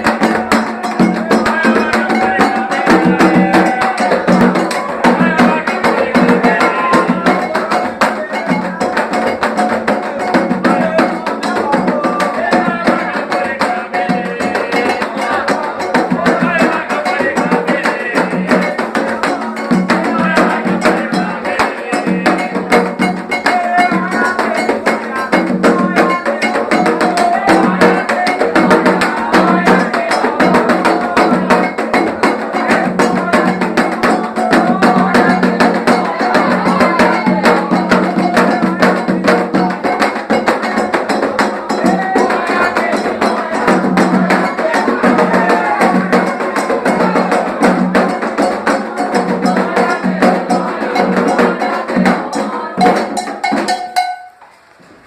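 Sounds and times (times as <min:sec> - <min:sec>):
voices singing: 0:00.0 - 0:54.2
fast percussion music: 0:00.0 - 0:54.4.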